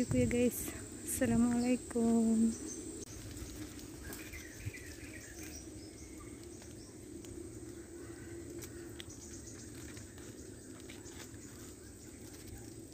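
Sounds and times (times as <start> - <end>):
insect drone: 0.0 - 12.9.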